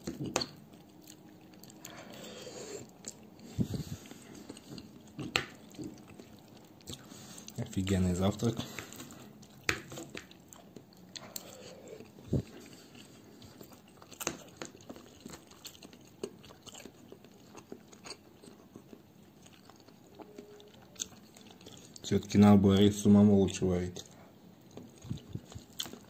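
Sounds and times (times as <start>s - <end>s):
quiet chewing: 0.0s - 22.2s, 24.0s - 26.0s.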